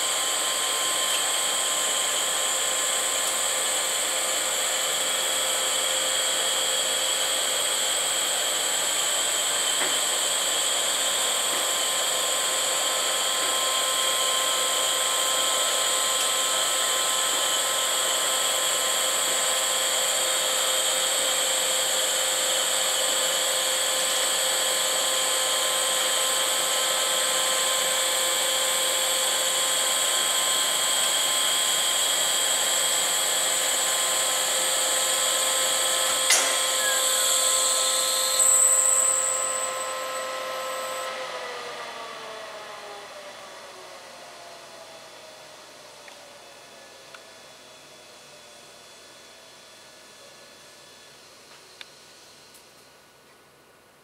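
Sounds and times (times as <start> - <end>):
electric motor and gearbox whine: 0.0 - 52.9.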